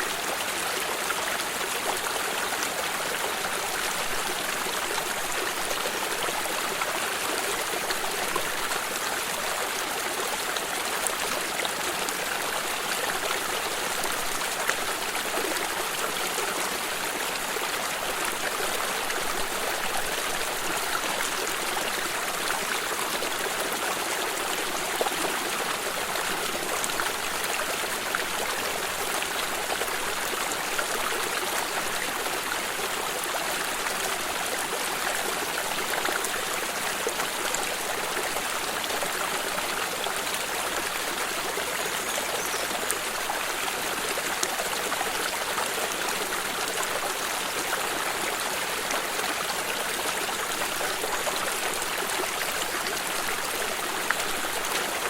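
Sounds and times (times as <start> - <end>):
stream flowing and trickling: 0.0 - 55.0.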